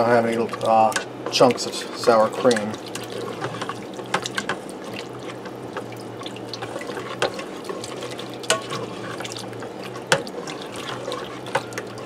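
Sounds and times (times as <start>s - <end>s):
low steady hum: 0.0s - 12.0s
spoon stirring thick sauce: 0.0s - 12.0s.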